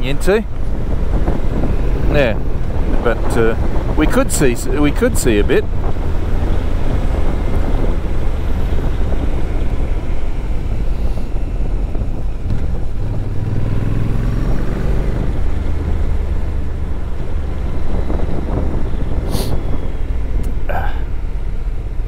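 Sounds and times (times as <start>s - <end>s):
wind noise: 0.0s - 22.0s.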